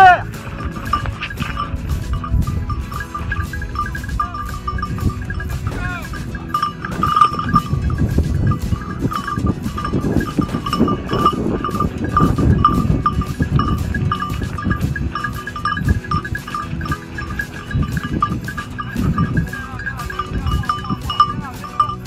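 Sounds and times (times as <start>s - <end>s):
dog collar bell jingling: 0.0s - 22.0s
low microphone rumble: 0.0s - 22.0s.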